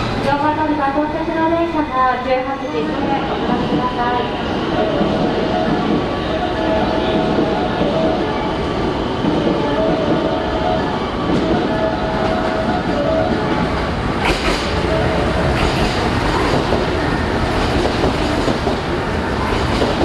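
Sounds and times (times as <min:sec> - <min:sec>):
diesel train engines running: 0:00.0 - 0:20.0.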